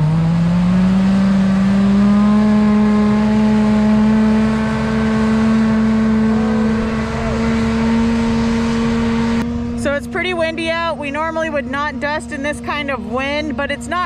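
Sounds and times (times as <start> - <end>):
tractor engine and fan droning: 0.0 - 14.0.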